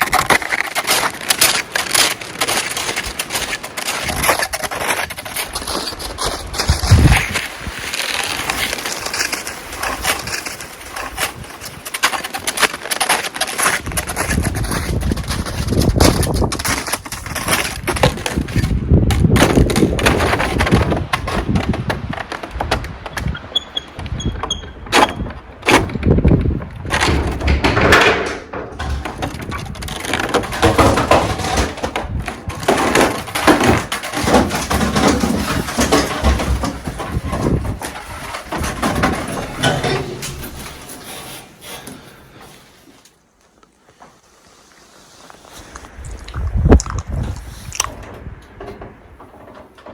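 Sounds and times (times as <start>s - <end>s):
wind buffeting microphone: 0.0s - 12.2s, 13.6s - 41.0s, 45.6s - 49.4s.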